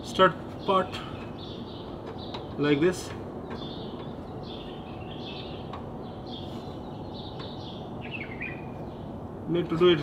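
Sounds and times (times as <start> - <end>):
low background rumble: 0.0 - 10.0
small birds chirping: 0.0 - 10.0.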